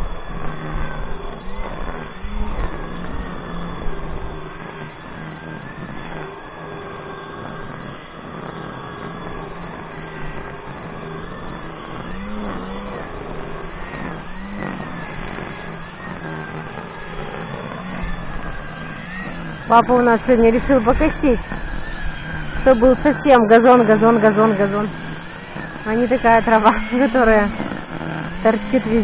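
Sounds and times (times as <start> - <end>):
lawn mower motor running: 0.0 - 29.0.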